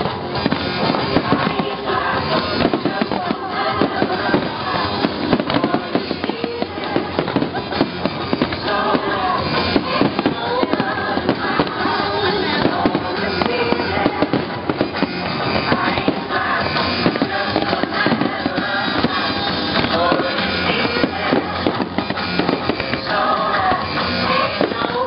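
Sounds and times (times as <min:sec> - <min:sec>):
fireworks bangs and crackles: 0:00.0 - 0:25.0
music playing: 0:00.0 - 0:25.0.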